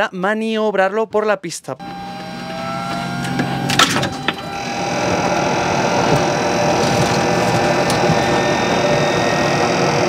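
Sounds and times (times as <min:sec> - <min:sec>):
rising engine whine: 0:01.8 - 0:10.0
turbine rush with high whistles: 0:01.9 - 0:10.0.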